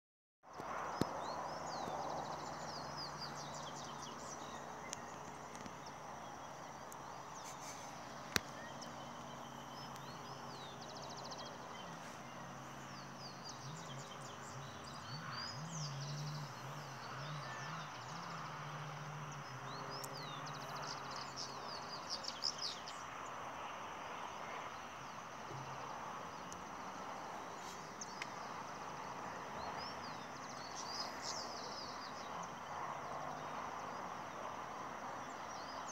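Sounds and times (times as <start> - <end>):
small birds chirping: 0.5 - 23.7, 24.4 - 35.9
background hiss: 0.6 - 35.9.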